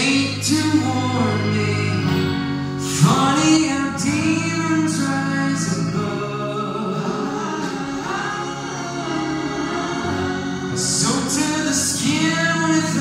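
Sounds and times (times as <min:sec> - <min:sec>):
man singing into a microphone: 0:00.0 - 0:13.0
strummed acoustic guitar: 0:00.0 - 0:13.0
sustained keyboard chords: 0:00.0 - 0:13.0.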